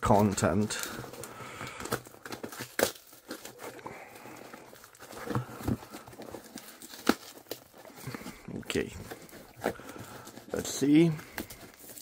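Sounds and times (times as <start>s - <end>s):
paper and plastic rustling: 0.0s - 12.0s
cardboard ripping: 1.7s - 12.0s.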